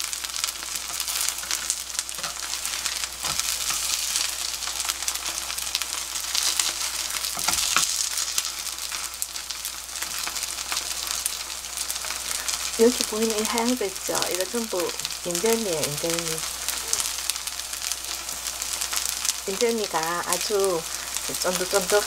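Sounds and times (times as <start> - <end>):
pancakes sizzling in oil: 0.0 - 22.0.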